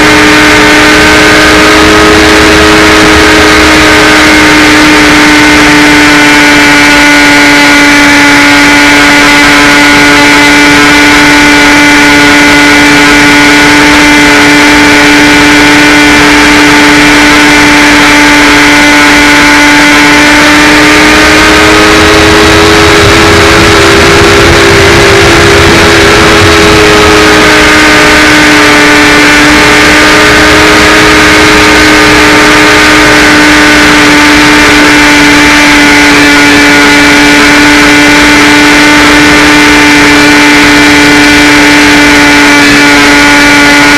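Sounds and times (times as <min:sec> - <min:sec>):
electric motor and propeller whine: 0:00.0 - 0:43.9
wind noise: 0:00.0 - 0:43.9.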